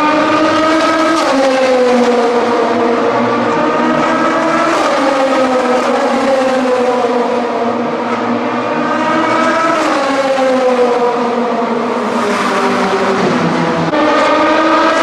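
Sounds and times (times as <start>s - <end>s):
racing cars passing at speed: 0.0s - 15.0s.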